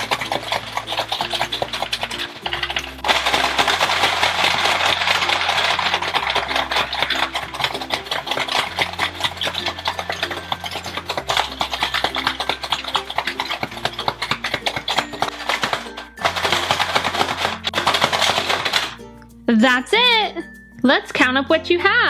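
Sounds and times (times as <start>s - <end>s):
plastic toy parts rattling: 0.0s - 19.0s
balls clattering: 0.0s - 19.1s.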